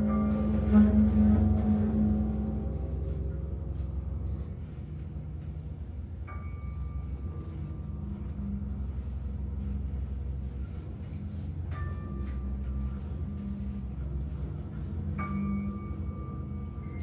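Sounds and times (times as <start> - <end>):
bell-like metallic tone ringing: 0.0 - 4.8, 6.1 - 9.8, 11.6 - 17.0
low sustained drone: 0.0 - 17.0.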